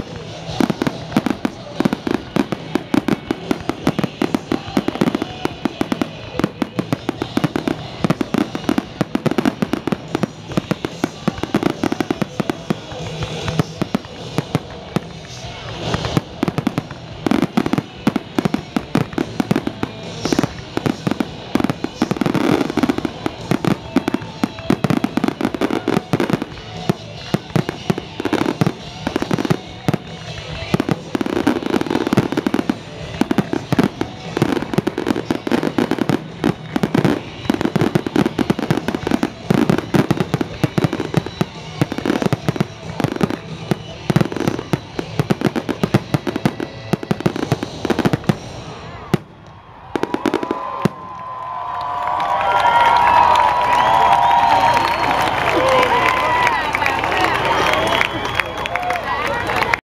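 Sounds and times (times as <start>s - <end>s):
fireworks bursting: 0.0s - 59.8s.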